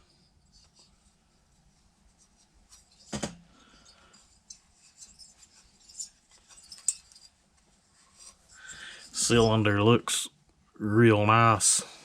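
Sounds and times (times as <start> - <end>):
light rubbing: 0.0 - 9.7.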